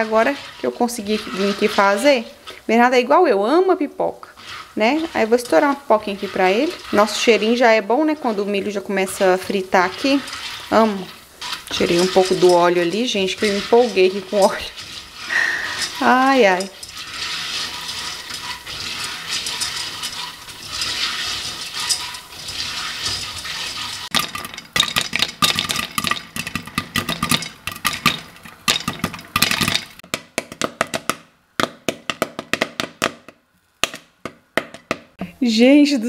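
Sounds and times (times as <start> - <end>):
popcorn kernels popping: 0.0 - 3.2, 4.4 - 35.2
oil sizzling in a pan: 0.0 - 30.0.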